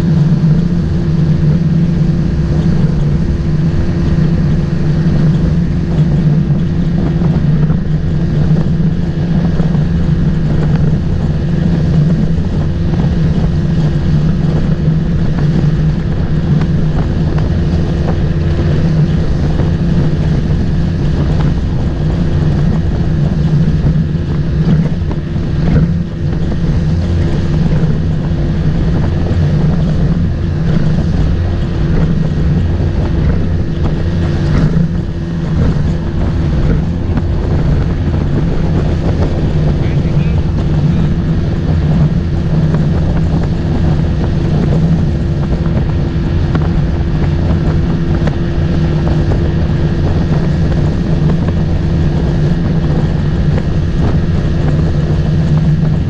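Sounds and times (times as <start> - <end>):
motorboat engine running: 0.0 - 56.0
wind buffeting microphone: 0.0 - 56.0.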